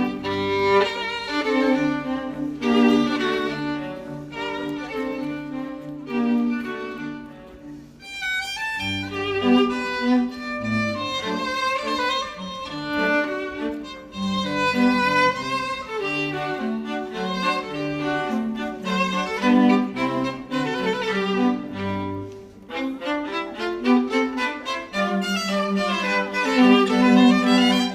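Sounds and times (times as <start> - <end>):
violin melody: 0.0 - 27.9.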